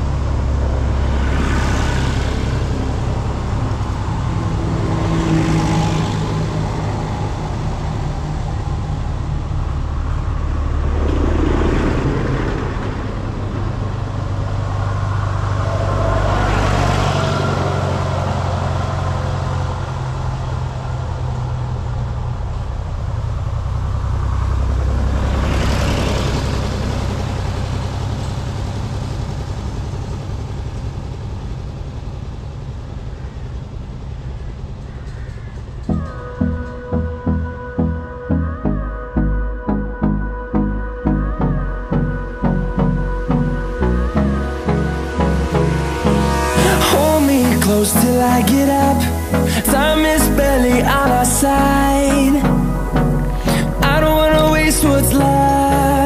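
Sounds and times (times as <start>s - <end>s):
tractors driving past: 0.0s - 38.2s, 41.2s - 56.0s.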